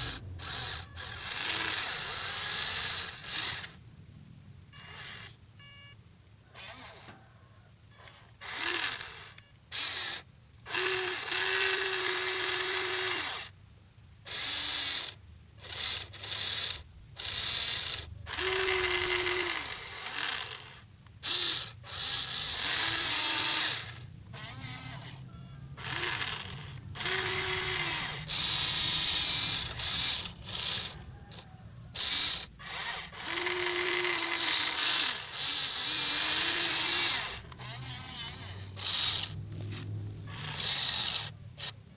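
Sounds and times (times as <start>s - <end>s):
electric gear motors whirring: 0.0s - 3.8s, 4.8s - 5.4s, 6.5s - 7.2s, 8.0s - 13.6s, 14.3s - 41.9s.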